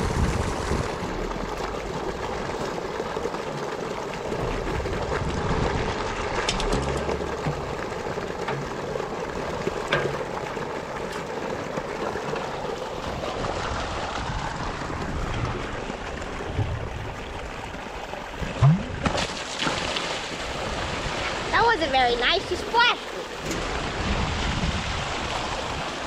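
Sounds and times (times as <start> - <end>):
water rushing from tubes: 0.0 - 26.0.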